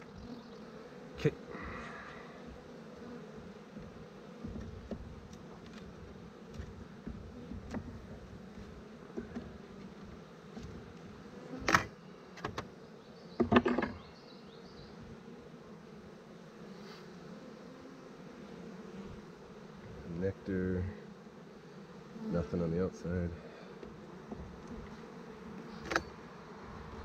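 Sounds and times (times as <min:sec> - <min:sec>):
bees humming: 0:00.0 - 0:27.0.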